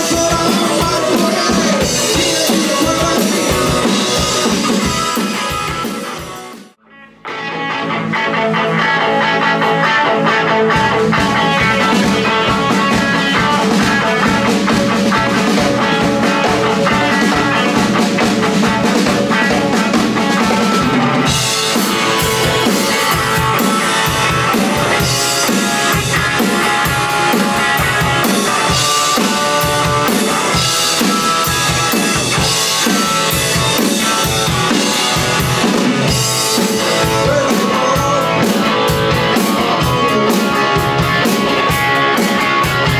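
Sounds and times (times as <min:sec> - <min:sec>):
drum kit: 0:00.0 - 0:42.9
electric guitar rock riff: 0:00.0 - 0:42.9.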